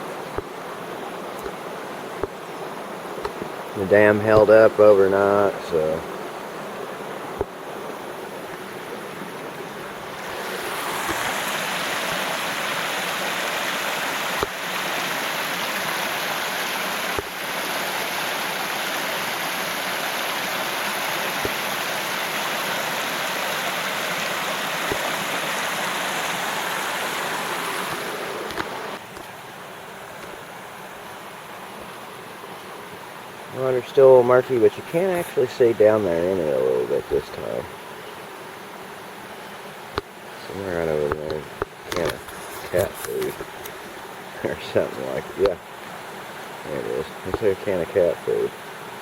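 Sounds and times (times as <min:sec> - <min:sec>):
creek water rushing over dam: 0:00.0 - 0:49.0.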